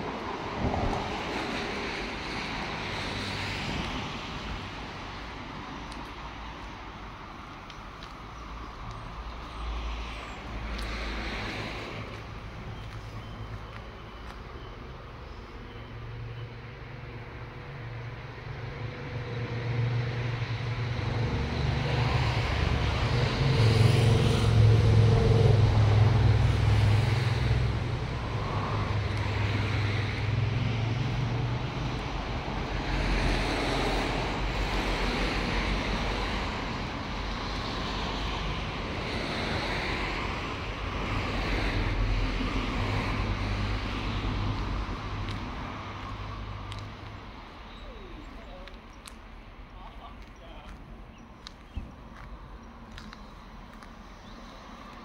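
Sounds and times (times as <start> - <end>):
vehicle engine and tyre rumble: 0.0 - 55.0.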